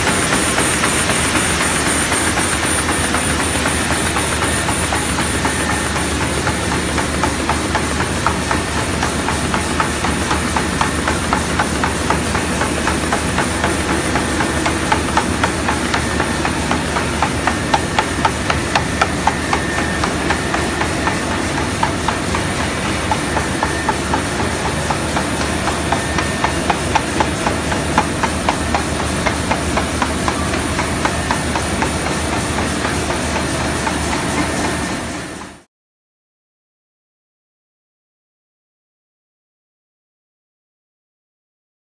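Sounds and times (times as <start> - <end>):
paper cutting machine rushing: 0.0 - 35.6.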